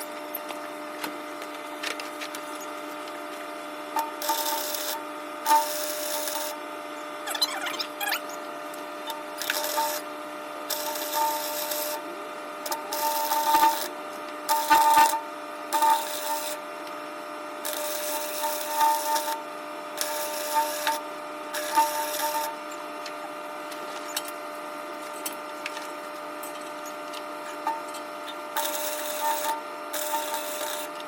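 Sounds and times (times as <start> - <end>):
steady hum: 0.0 - 31.0
welding arc crackle: 4.0 - 8.4, 9.1 - 12.1, 12.7 - 19.4, 20.0 - 31.0.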